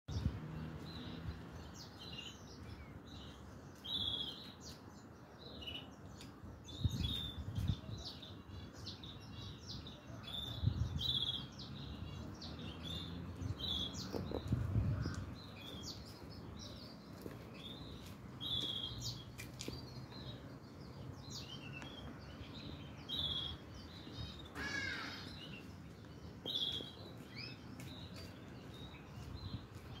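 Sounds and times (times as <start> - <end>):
bird chirping: 0.1 - 30.0.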